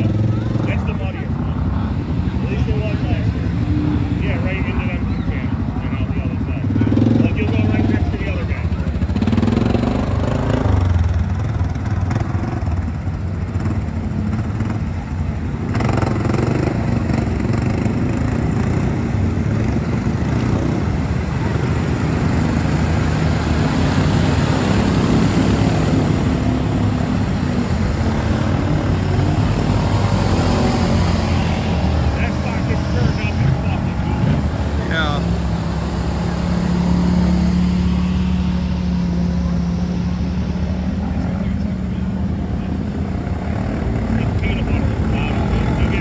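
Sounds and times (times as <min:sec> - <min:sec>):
atv engine under load: 0:00.0 - 0:39.8.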